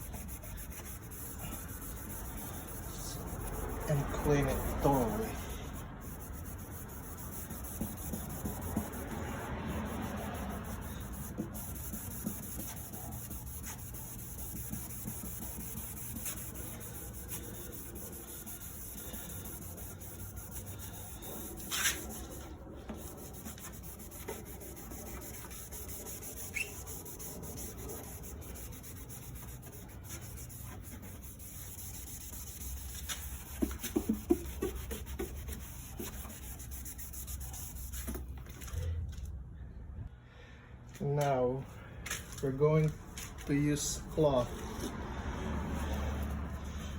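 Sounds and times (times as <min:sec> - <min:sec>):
cleaning pad scrubbing plastic: 0:00.0 - 0:38.2.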